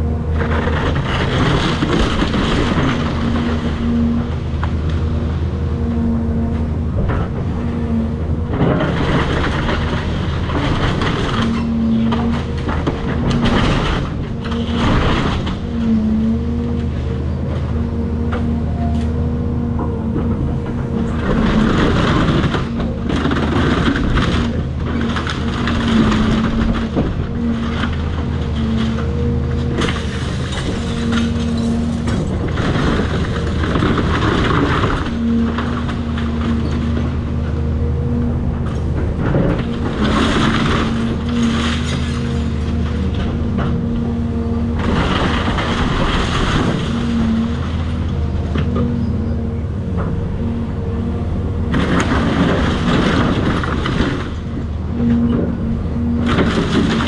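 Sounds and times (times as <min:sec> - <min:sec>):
crunching and cracking debris: 0:00.0 - 0:05.2, 0:06.6 - 0:57.0
excavator diesel engine: 0:00.0 - 0:57.0.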